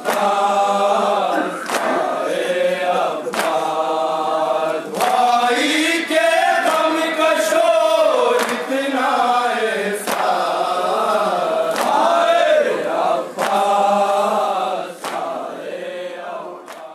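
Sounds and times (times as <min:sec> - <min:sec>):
men chanting through microphones: 0:00.0 - 0:16.9.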